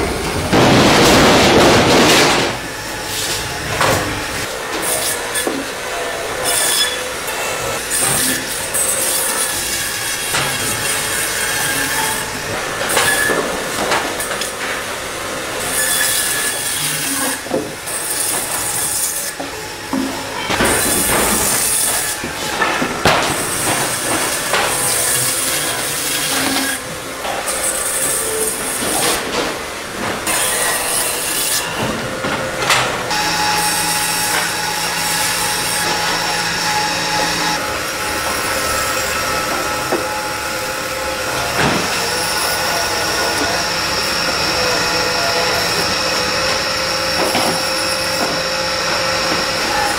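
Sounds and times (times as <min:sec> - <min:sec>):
band saw cutting frozen fish: 0:00.0 - 0:49.9
factory machinery: 0:00.0 - 0:49.9.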